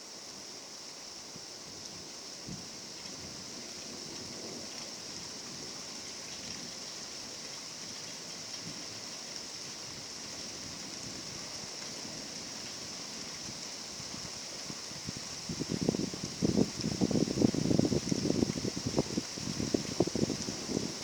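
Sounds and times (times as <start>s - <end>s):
rain falling: 0.1s - 21.0s.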